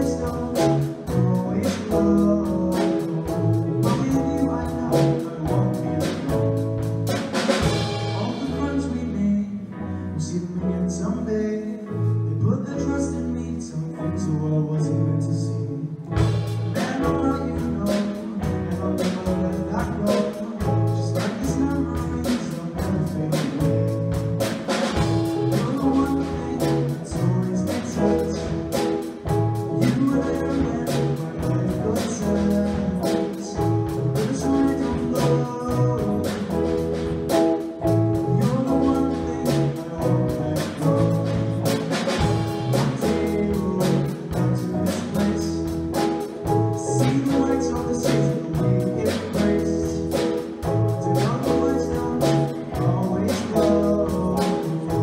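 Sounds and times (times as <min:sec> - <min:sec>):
drums and cymbals: 0:00.0 - 0:09.2, 0:16.2 - 0:55.0
live band playing: 0:00.0 - 0:55.0.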